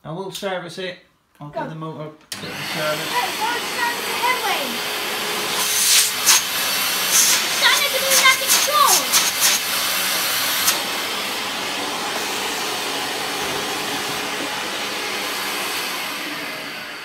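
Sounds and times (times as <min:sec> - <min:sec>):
vacuum cleaner running: 0:02.3 - 0:17.0.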